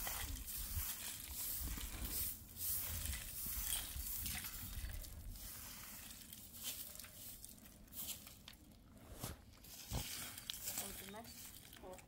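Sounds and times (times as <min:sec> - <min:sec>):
broom sweeping dusty ground: 0:00.0 - 0:12.0.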